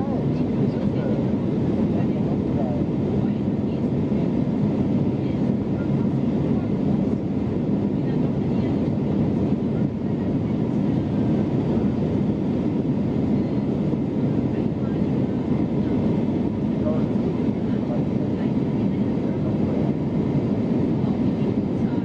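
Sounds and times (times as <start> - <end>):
airplane cabin engine roar: 0.0 - 22.0.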